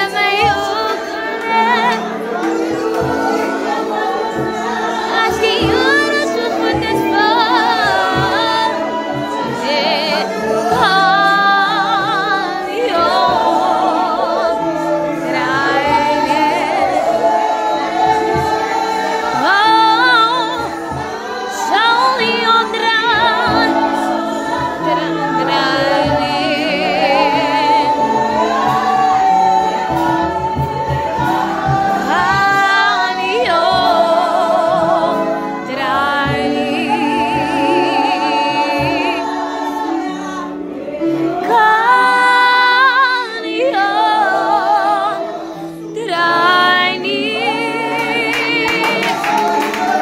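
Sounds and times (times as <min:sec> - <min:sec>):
acoustic guitar: 0:00.0 - 0:50.0
group singing worship song: 0:00.0 - 0:50.0.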